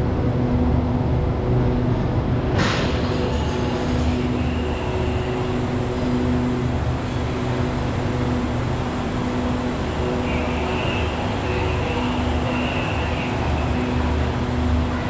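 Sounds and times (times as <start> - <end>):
train engines idling: 0.9 - 15.0.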